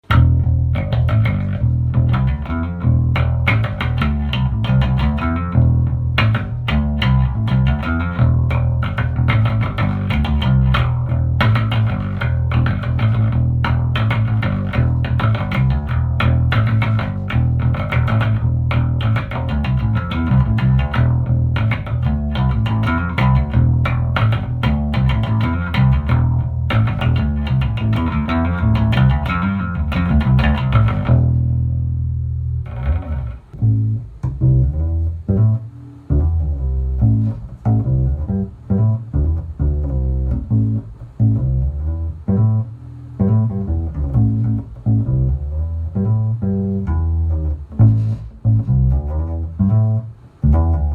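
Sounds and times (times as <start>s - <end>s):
electric bass guitar notes: 0.0s - 50.9s.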